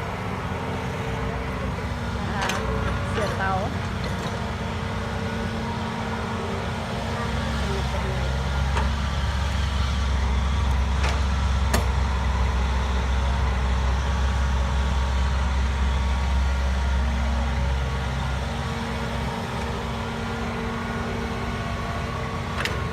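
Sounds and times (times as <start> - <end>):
heavy diesel engine running: 0.0 - 22.9.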